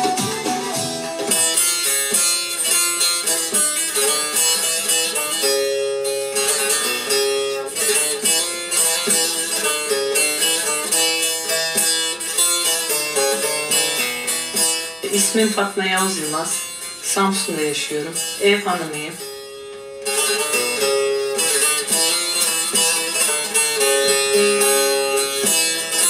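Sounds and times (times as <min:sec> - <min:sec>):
plucked long-necked lute melody: 0:00.0 - 0:26.0.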